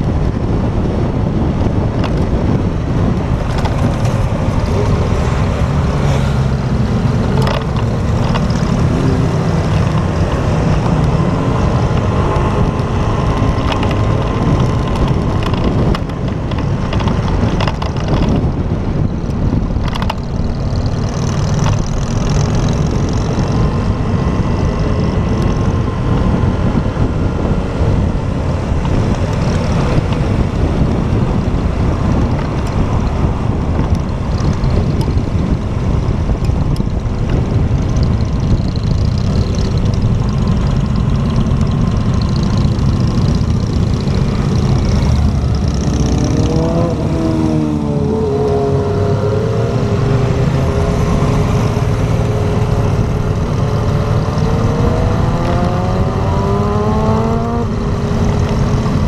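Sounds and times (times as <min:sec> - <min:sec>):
heavy wind noise: 0:00.0 - 0:59.0
motorcycle engine: 0:00.0 - 0:59.0.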